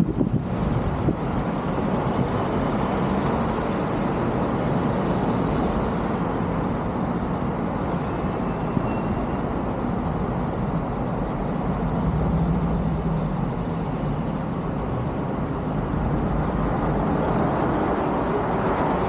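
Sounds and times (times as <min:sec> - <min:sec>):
street traffic rumbling: 0:00.0 - 0:19.0.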